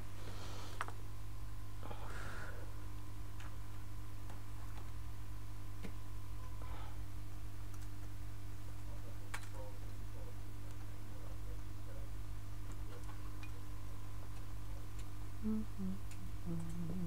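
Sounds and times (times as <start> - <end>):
faint high-pitched whine: 0.0 - 17.0
steady electrical hum: 0.0 - 17.0.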